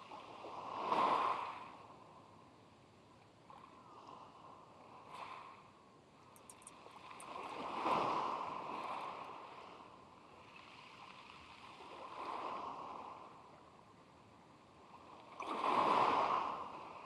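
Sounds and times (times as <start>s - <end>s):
small waves breaking on shore: 0.0s - 17.0s.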